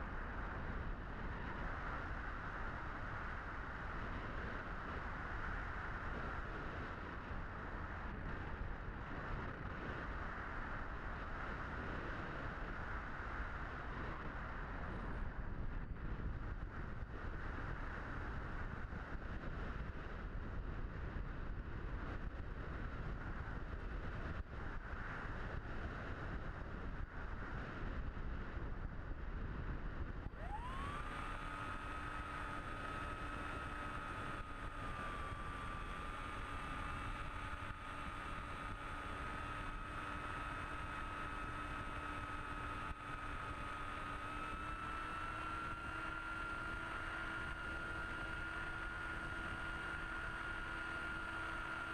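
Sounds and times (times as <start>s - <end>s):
electric motor and propeller whine: 0.0s - 51.9s.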